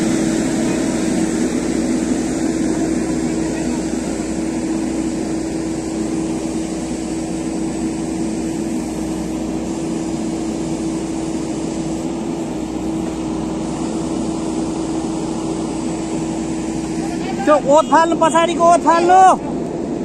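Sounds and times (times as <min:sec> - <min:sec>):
diesel engine running at high revs: 0:00.0 - 0:20.0.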